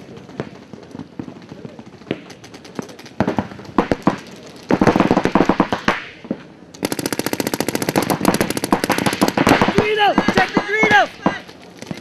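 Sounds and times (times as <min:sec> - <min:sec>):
paintball markers firing: 0:00.1 - 0:12.0.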